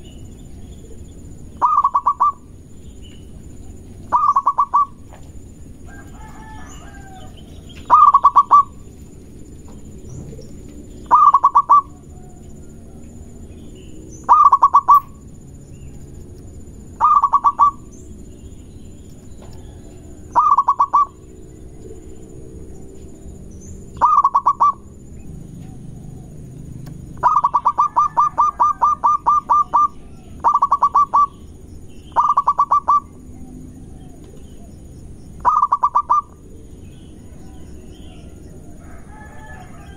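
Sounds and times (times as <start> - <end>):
dove cooing: 0.0 - 9.0, 9.6 - 13.5, 14.2 - 15.2, 17.0 - 17.9, 19.4 - 21.4, 24.0 - 39.9.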